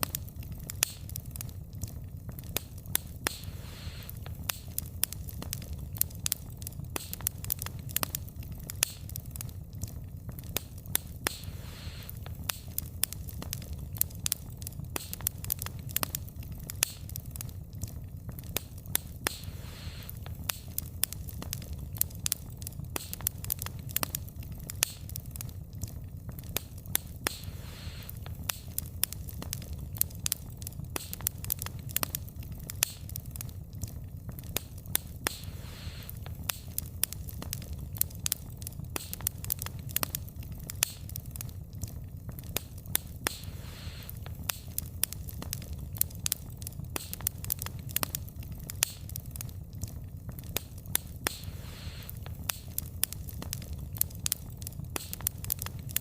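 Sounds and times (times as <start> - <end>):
logs crackling and popping: 0.0 - 56.0
low rumble of flames: 0.0 - 56.0
soft hiss of fire: 0.0 - 56.0.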